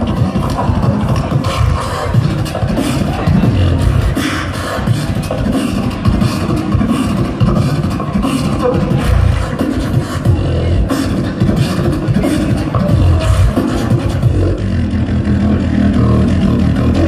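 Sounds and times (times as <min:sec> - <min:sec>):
person beatboxing: 0:00.0 - 0:17.0.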